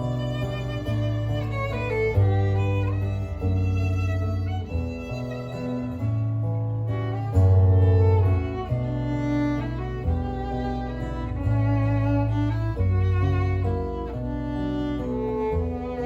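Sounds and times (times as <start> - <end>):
bowed violin melody: 0.0 - 16.0
guitar low notes: 0.0 - 16.0.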